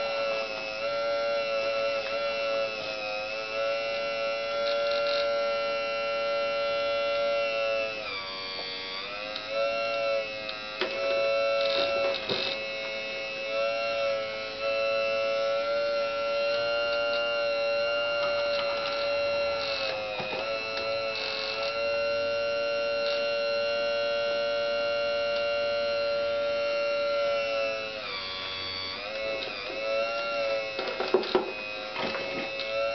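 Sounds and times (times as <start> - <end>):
hydraulic pump motor whining: 0.0 - 32.9.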